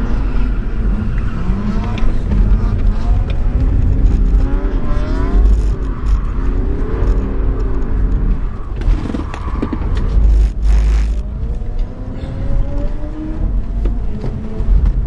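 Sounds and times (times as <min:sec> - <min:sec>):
car engine revving: 0:00.0 - 0:15.0
heavy low rumble: 0:00.0 - 0:15.0.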